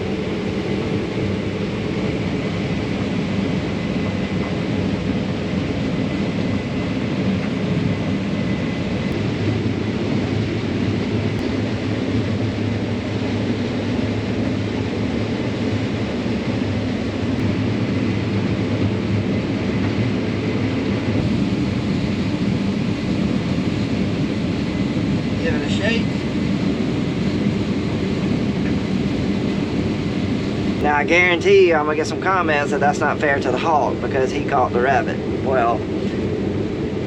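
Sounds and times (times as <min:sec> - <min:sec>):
combine harvester drone: 0:00.0 - 0:37.0.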